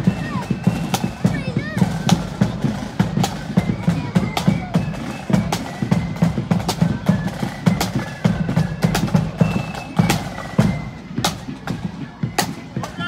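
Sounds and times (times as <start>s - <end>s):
marching band drums: 0.0s - 13.0s.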